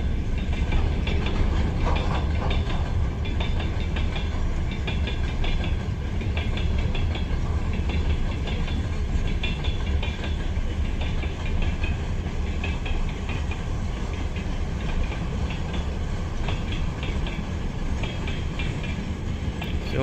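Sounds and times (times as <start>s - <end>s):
freight train wagons rumbling: 0.0s - 20.0s
wheels clicking over rail joints: 0.0s - 20.0s.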